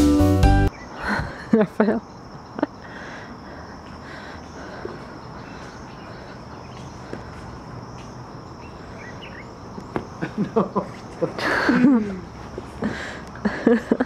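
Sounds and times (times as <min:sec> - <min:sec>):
faint chirps: 0:00.7 - 0:13.3
high-pitched insect chorus: 0:00.7 - 0:14.0.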